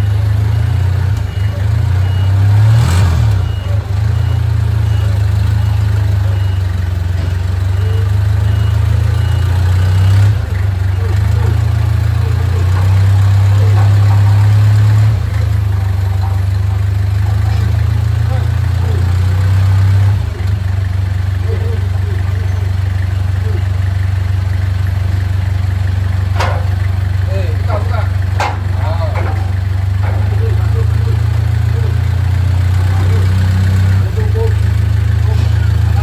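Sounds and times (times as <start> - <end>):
reversing alarm beeping: 0.0 - 36.0
vehicle engine idling: 0.0 - 36.0.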